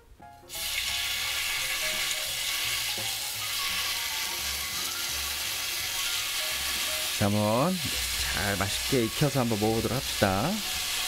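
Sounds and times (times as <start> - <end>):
chicken sizzling on a griddle: 0.5 - 11.0.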